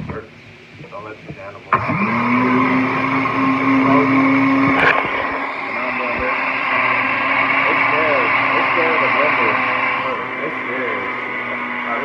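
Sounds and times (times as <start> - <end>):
blender running: 1.7 - 12.0
blender click: 1.8 - 11.9.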